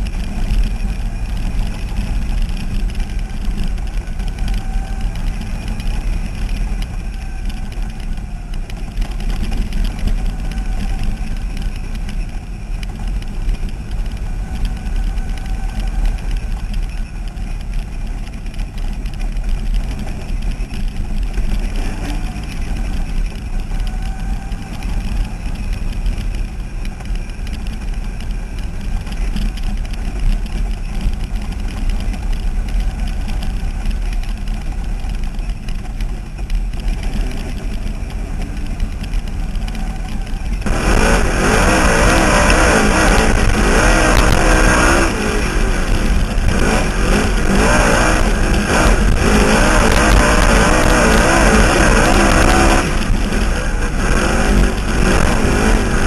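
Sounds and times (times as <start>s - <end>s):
race car engine rumbling: 0.0s - 56.0s.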